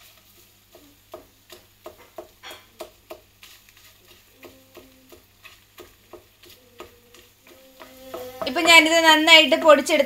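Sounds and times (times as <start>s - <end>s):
light sizzle: 0.0s - 10.0s
spatula knocking on frying pan: 0.7s - 9.9s.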